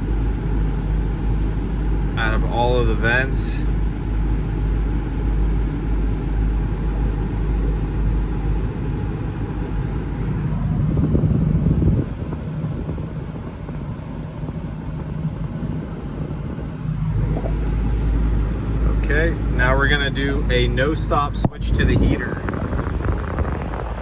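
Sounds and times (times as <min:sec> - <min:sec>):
car engine idling: 0:00.0 - 0:11.2, 0:12.2 - 0:24.0
air-conditioning blower rushing: 0:00.0 - 0:24.0.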